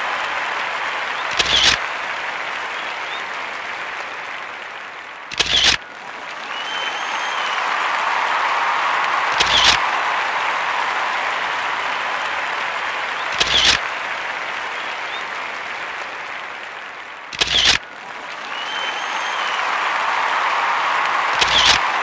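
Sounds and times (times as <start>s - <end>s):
applause: 0.0s - 22.0s.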